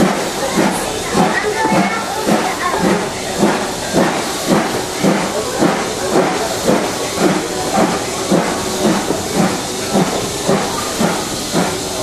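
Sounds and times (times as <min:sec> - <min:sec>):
steam train hissing and chugging: 0:00.0 - 0:12.0.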